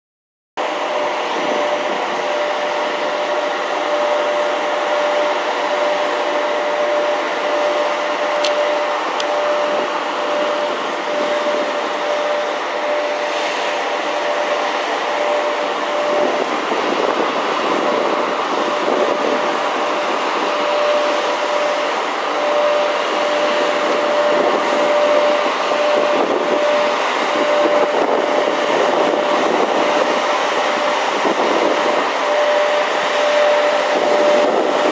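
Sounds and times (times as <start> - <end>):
electric locomotive blowers whirring: 0.6 - 34.9
steady hum tone: 0.6 - 34.9.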